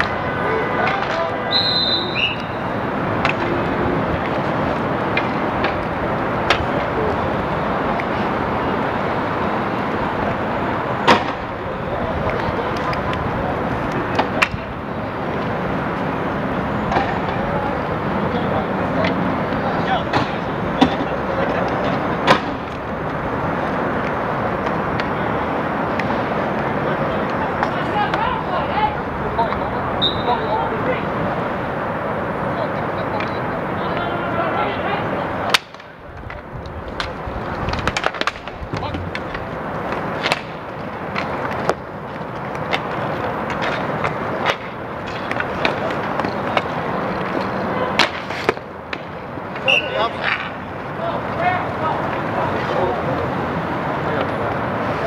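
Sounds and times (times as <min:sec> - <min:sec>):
hockey sticks clacking: 0:00.0 - 0:08.4, 0:09.6 - 0:16.2, 0:16.8 - 0:17.6, 0:18.8 - 0:31.0, 0:34.8 - 0:55.0
inline skate wheels rolling: 0:00.0 - 0:32.0, 0:33.8 - 0:55.0.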